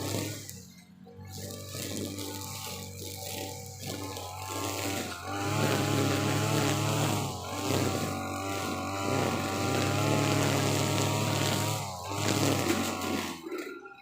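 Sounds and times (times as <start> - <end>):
brush cutter engine at full throttle: 0.0 - 14.0
trimmer head cutting grass: 0.0 - 14.0.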